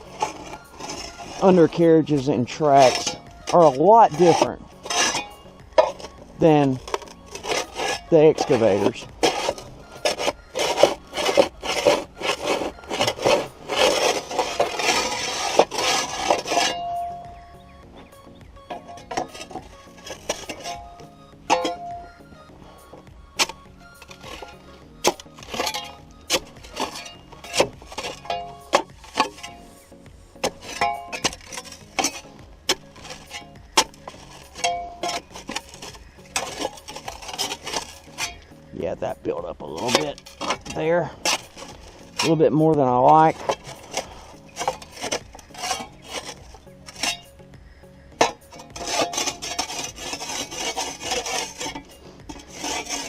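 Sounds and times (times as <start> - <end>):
faint background music: 0.0 - 53.0
hand tool scraping dirt: 0.0 - 53.0.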